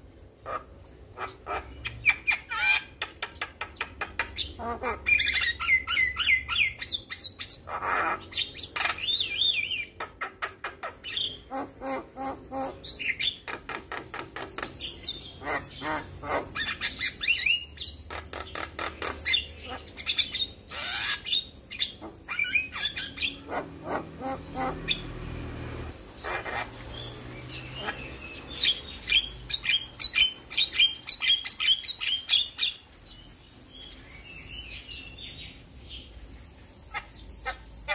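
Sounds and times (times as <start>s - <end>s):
bird harsh chattering calls: 0.3s - 35.6s, 36.8s - 37.9s.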